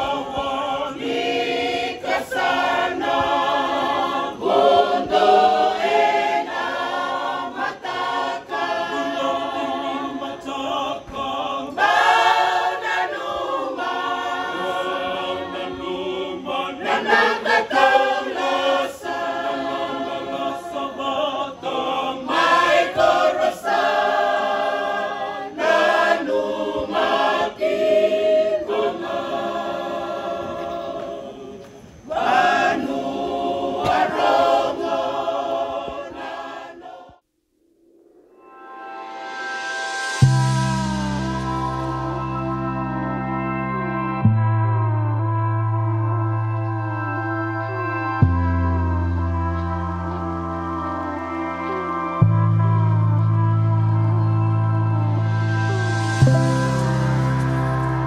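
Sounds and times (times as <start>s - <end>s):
choir singing sustained notes: 0.0s - 37.2s, 37.8s - 58.0s.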